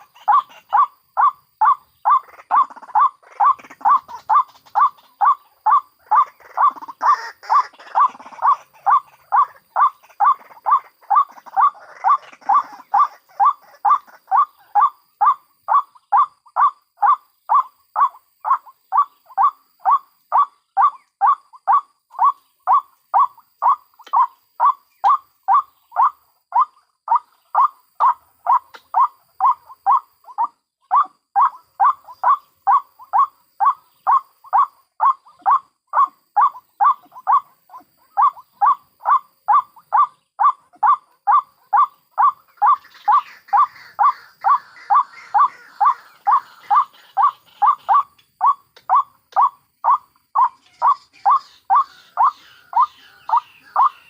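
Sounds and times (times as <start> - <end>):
softer waterhen calls: 0.0 - 54.0
waterhen calling: 0.0 - 54.0.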